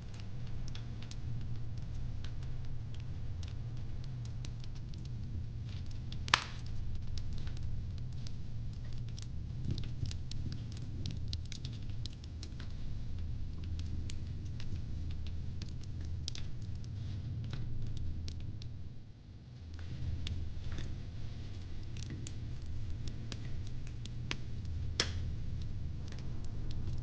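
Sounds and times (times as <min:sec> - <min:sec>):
fire pit crackling: 0:00.0 - 0:27.0
low rumble: 0:00.0 - 0:27.0.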